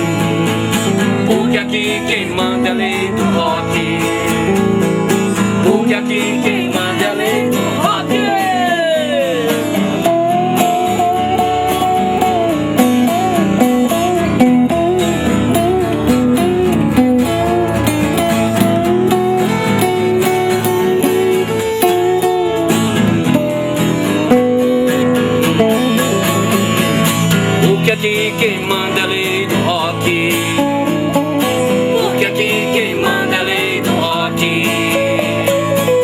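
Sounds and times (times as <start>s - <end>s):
guitars playing chords: 0.0s - 36.0s
lead guitar melody bending notes: 0.0s - 36.0s.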